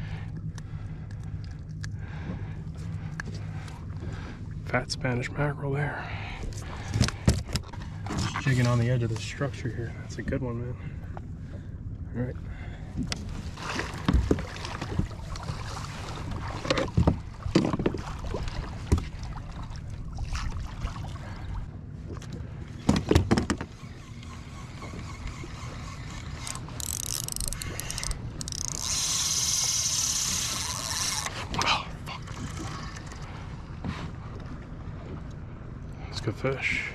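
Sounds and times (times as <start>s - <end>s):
water around hull: 0.0s - 36.9s.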